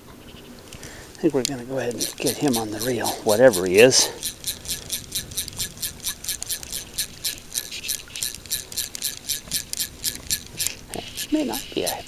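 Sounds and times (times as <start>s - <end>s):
fly reel ratchet clicking: 0.7s - 12.0s.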